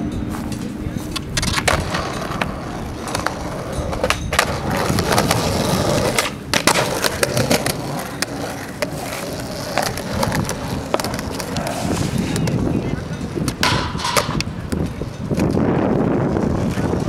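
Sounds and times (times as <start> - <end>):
skateboard wheels rolling on concrete: 0.0 - 17.0
skateboard wooden clacks: 0.6 - 15.6.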